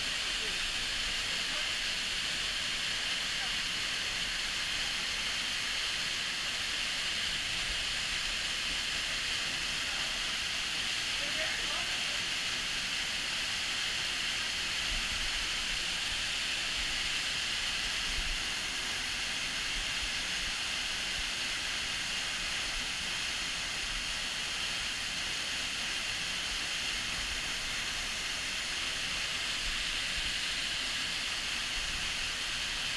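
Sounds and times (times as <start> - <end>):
waterfall rushing into a pool: 0.0 - 32.9.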